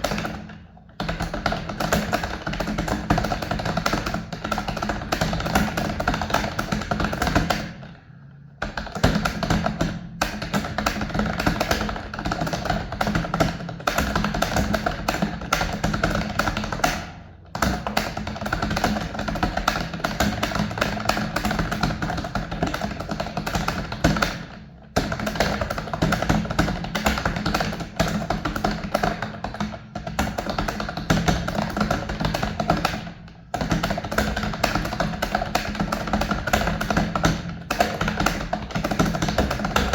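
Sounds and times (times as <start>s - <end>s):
fast typing on keyboard: 0.0s - 7.9s, 8.6s - 39.9s.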